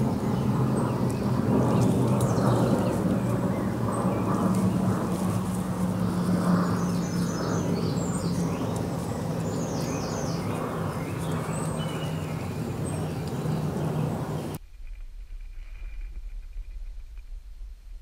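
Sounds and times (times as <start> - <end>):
songbirds chirping: 0.0 - 14.6
steady low noise: 0.0 - 18.0.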